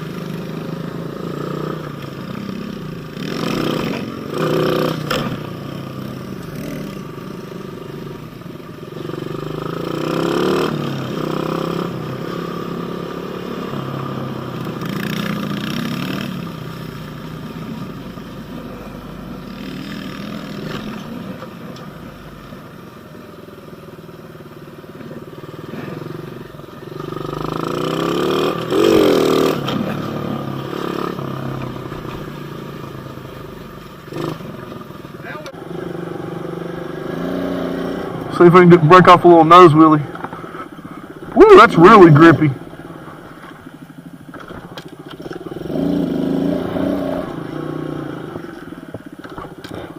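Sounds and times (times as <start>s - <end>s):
pit bike engine revving: 0.0s - 8.0s, 8.9s - 16.9s, 25.3s - 49.9s.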